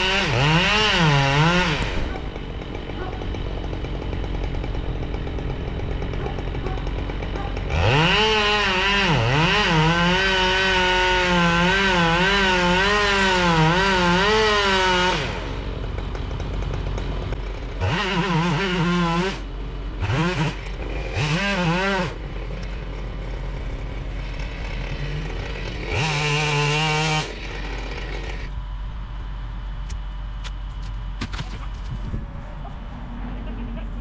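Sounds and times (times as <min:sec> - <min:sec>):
chainsaw cutting wood: 0:00.0 - 0:28.5
chainsaw revving: 0:00.0 - 0:28.5.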